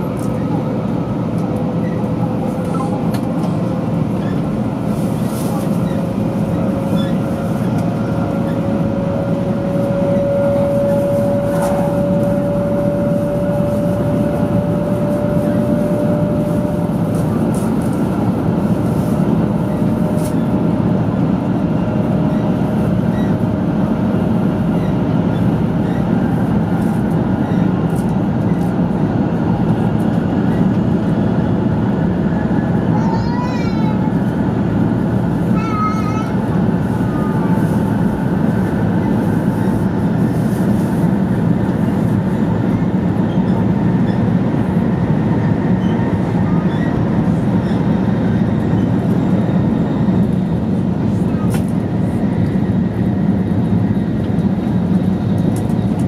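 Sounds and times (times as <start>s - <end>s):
train cabin rumble: 0.0s - 56.0s.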